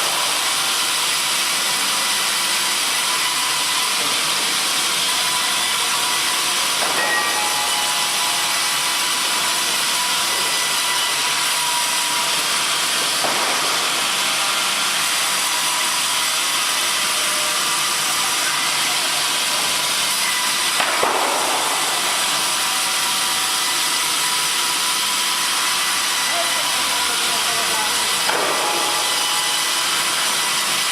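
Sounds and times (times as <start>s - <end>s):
power saw cutting wood: 0.0s - 30.9s.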